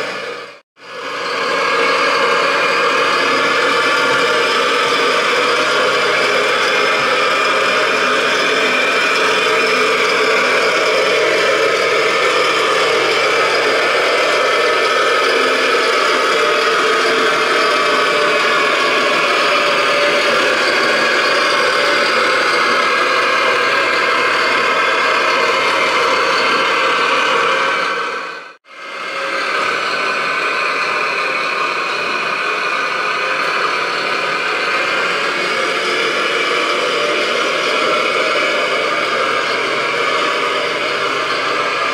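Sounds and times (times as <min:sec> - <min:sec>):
toy truck motor running: 0:00.0 - 0:41.9.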